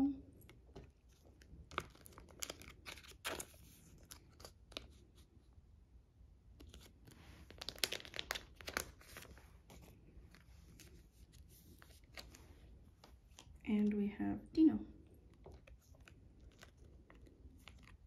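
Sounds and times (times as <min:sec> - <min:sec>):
plastic sleeves crinkling: 0:00.4 - 0:05.4, 0:06.5 - 0:13.6, 0:15.1 - 0:18.0.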